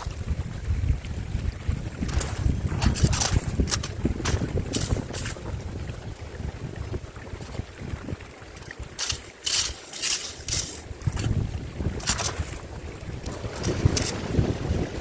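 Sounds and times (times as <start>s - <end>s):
water splashing in stream: 0.0s - 15.0s
wind buffeting microphone: 0.0s - 15.0s.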